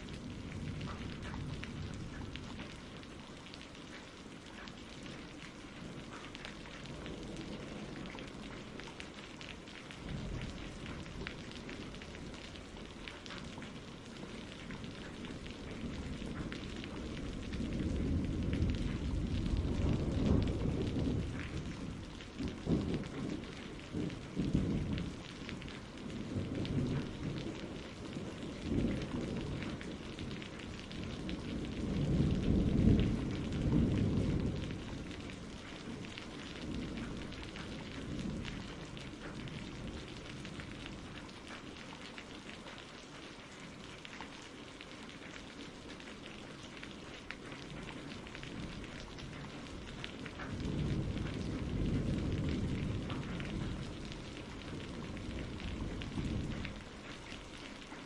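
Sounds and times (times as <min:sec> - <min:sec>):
rolling thunder: 0:00.0 - 0:03.3, 0:05.1 - 0:41.2, 0:47.4 - 0:57.2
steady rain: 0:00.0 - 0:58.0.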